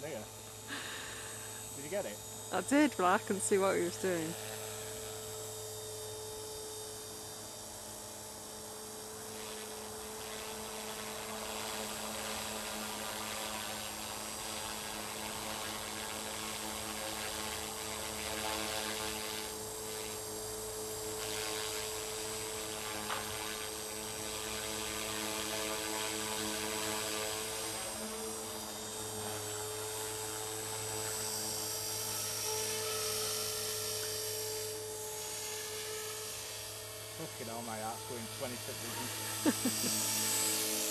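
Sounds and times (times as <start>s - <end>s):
rc helicopter rotor whine: 0.0s - 40.9s.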